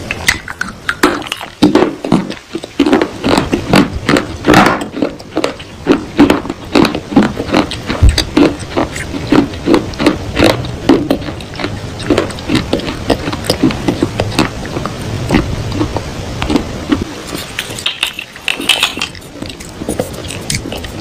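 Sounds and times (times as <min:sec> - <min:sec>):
crisp chewing crunches: 0:00.0 - 0:21.0.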